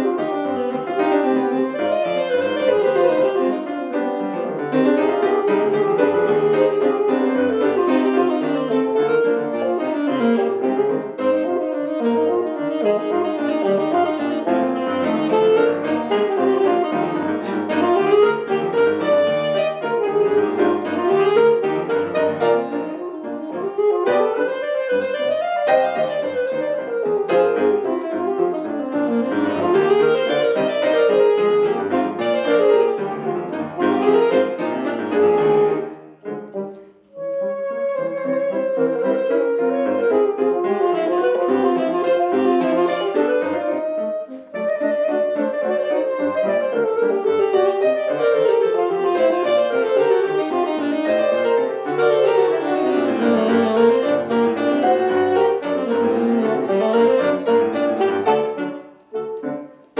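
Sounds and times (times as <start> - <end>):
alto saxophone: 0.0 - 59.9
grand piano: 0.0 - 59.9.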